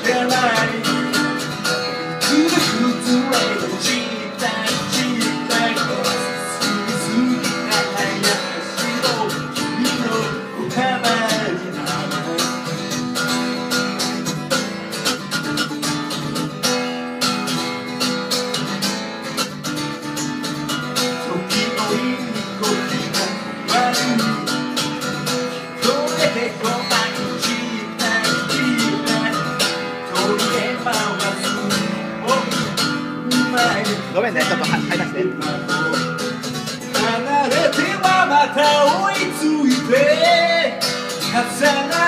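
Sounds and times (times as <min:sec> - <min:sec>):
man singing: 0:00.0 - 0:13.2, 0:20.9 - 0:42.0
strummed acoustic guitar: 0:00.0 - 0:42.0.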